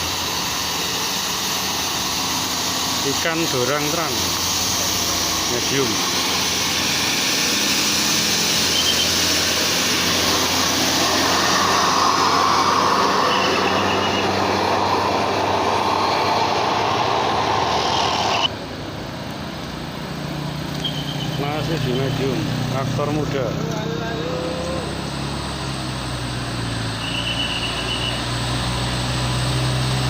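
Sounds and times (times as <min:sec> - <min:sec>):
bus engine roaring: 0:00.0 - 0:30.0.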